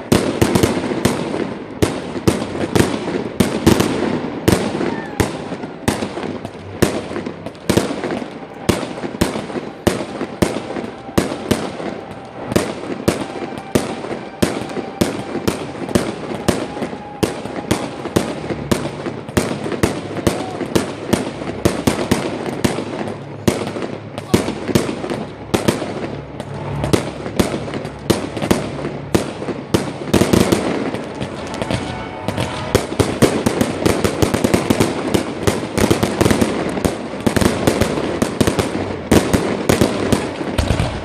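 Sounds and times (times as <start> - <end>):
fireworks crackling: 0.0 - 41.0
fireworks shells bursting: 0.0 - 41.0.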